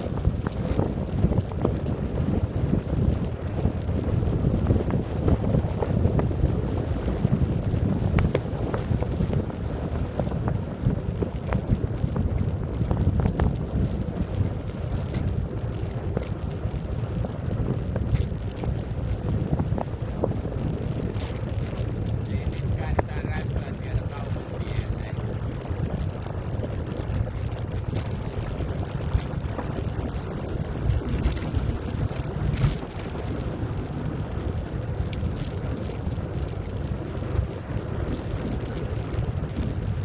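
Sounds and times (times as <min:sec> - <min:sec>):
light ticks from road bumps: 0:00.0 - 0:40.0
tyre rumble on asphalt: 0:00.0 - 0:40.0
wind rushing over microphone: 0:00.0 - 0:40.0.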